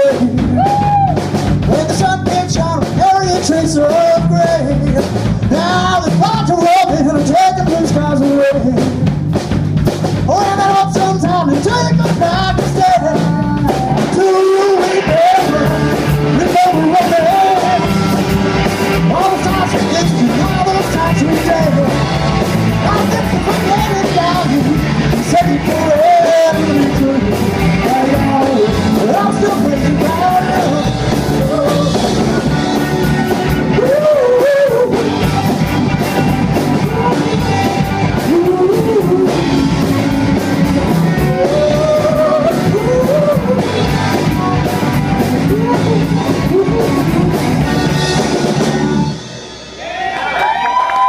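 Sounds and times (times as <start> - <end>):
lead vocal singing: 0.0 - 9.2, 10.2 - 49.2
live rock band playing: 0.0 - 51.0.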